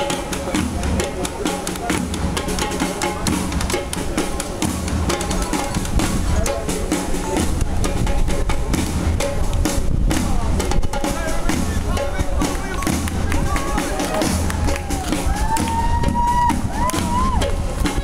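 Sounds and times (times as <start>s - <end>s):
percussion-driven music: 0.0s - 18.0s.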